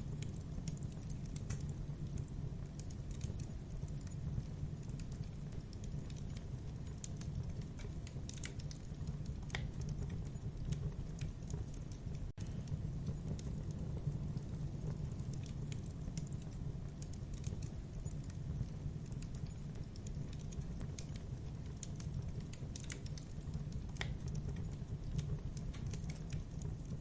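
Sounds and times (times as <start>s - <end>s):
campfire crackling and popping: 0.0s - 27.0s
low rumble of burning fire: 0.0s - 27.0s.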